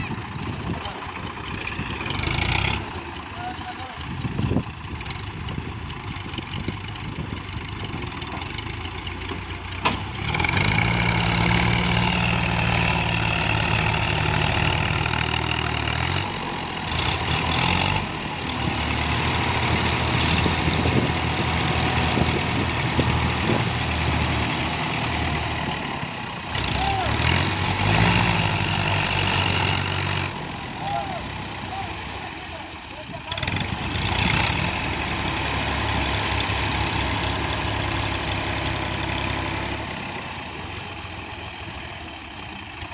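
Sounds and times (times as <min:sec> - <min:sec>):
tractor diesel engine labouring: 0:00.0 - 0:42.9.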